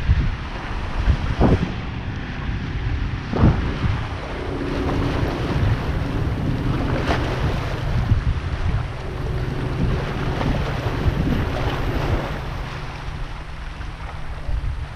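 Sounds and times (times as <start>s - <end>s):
faint motorboat hum: 0.0s - 14.9s
wind buffeting microphone: 0.0s - 14.9s.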